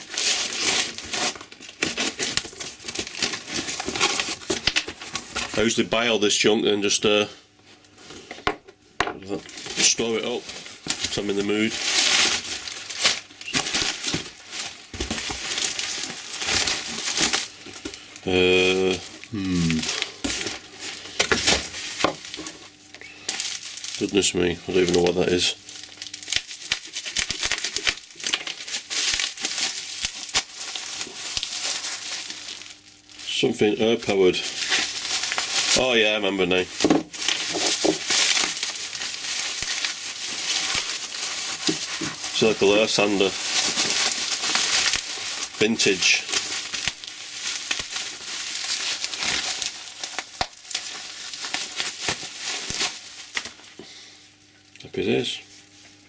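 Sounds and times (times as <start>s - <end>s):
packing material crinkling: 0.0s - 8.5s, 9.2s - 56.0s.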